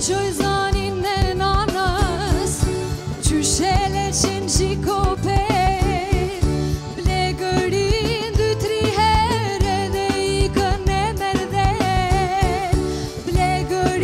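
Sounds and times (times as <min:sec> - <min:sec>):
band with drums and bass: 0:00.0 - 0:14.0
woman singing into a microphone: 0:00.0 - 0:14.0.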